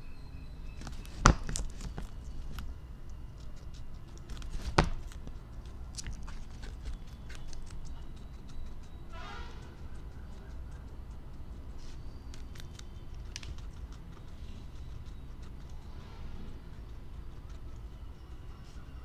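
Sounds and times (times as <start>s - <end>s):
guinea pig chirp: 0.0s - 19.0s
guinea pig chewing: 0.6s - 19.0s.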